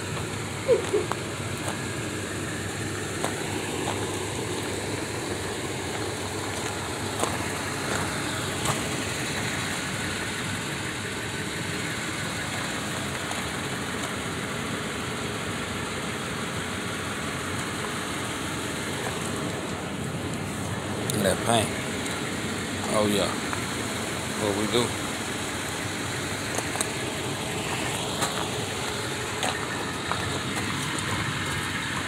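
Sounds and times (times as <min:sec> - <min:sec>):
pickup truck idling: 0:00.0 - 0:32.0.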